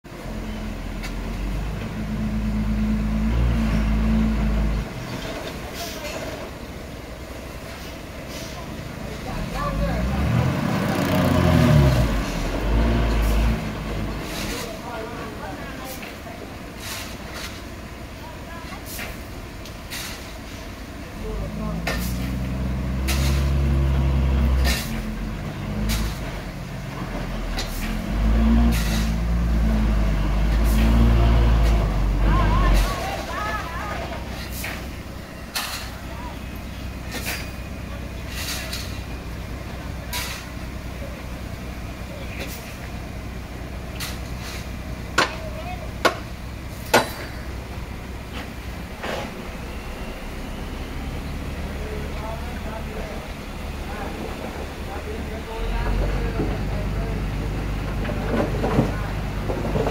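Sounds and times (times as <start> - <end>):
dump truck diesel engine running: 0.1 - 59.9.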